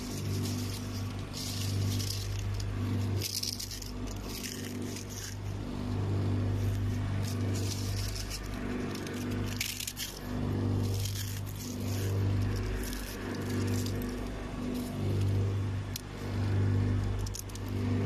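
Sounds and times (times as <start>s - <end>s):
chips rustling and clattering: 0.0s - 5.6s, 6.5s - 15.3s, 17.0s - 17.8s
steady low hum: 0.0s - 18.0s.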